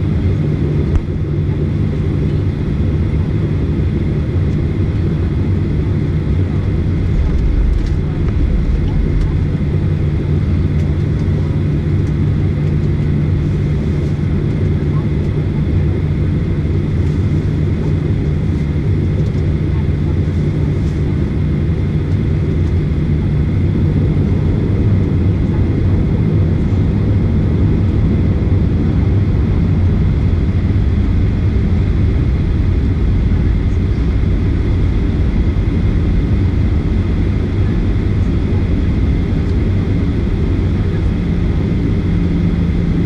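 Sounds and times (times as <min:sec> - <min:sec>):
faint steady whine: 0:00.0 - 0:43.0
jet engines rumbling: 0:00.0 - 0:43.0.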